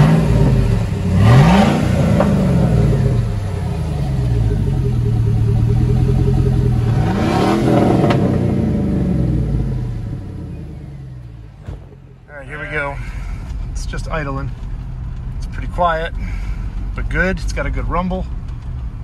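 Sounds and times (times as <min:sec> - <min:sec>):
car engine revving and idling: 0:00.0 - 0:19.0.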